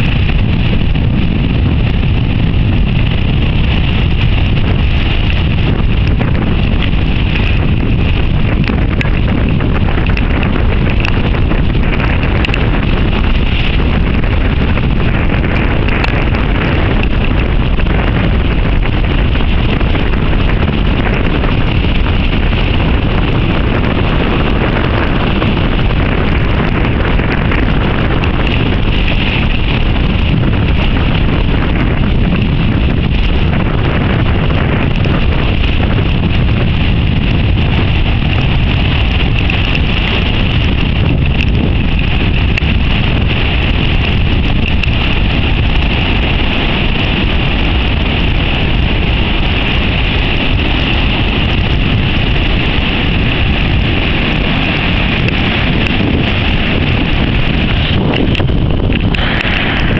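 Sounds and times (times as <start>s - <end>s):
strong wind on microphone: 0.0s - 59.9s
surf breaking on rocks: 0.0s - 59.9s.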